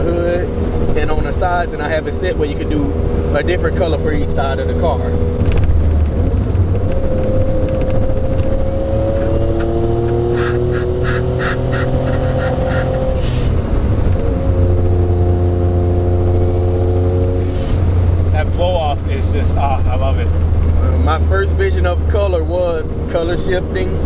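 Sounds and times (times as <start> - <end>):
turbocharged car engine accelerating: 0.0 - 24.0.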